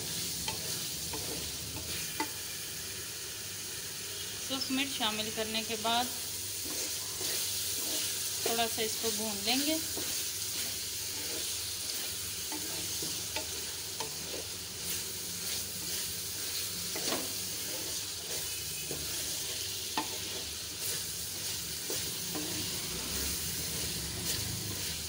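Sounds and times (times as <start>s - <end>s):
chicken sizzling in oil: 0.0s - 25.0s
spoon scraping pan: 0.2s - 2.4s, 6.5s - 25.0s.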